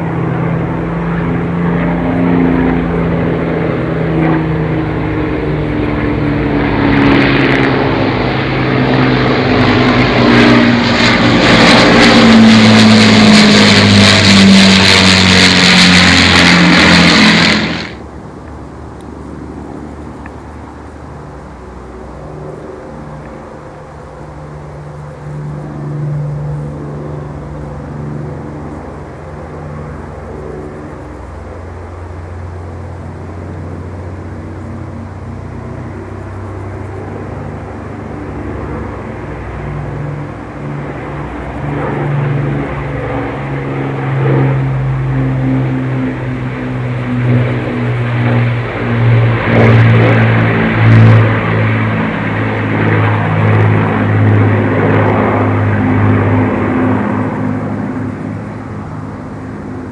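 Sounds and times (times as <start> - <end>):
propeller plane engines droning: 0.0 - 59.9.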